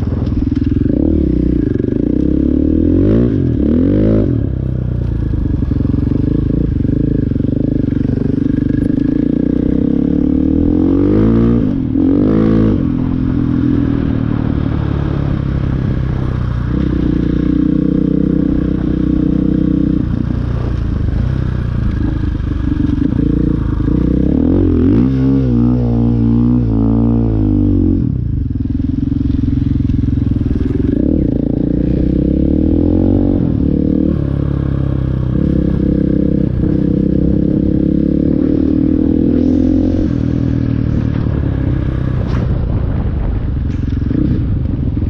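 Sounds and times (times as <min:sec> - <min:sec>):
dirt bike engine revving: 0:05.5 - 0:27.9, 0:29.0 - 0:44.5.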